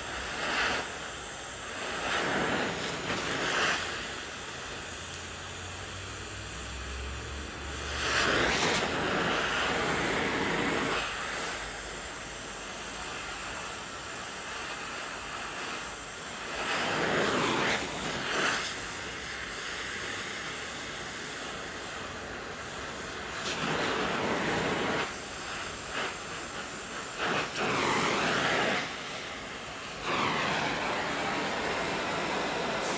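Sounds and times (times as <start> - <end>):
torch flame hissing: 0.0 - 32.9.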